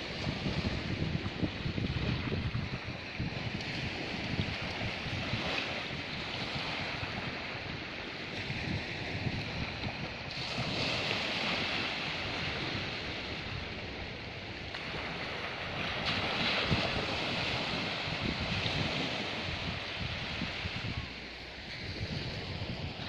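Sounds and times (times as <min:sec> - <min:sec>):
sea waves washing on shore: 0:00.0 - 0:23.0
wind buffeting microphone: 0:00.0 - 0:23.0.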